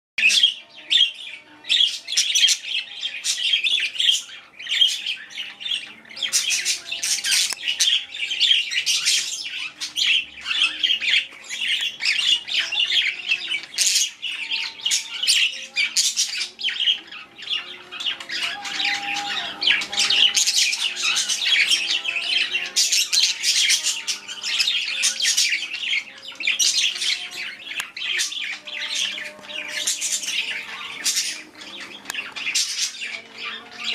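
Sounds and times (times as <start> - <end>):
budgerigars chirping and squawking: 0.2 - 33.9.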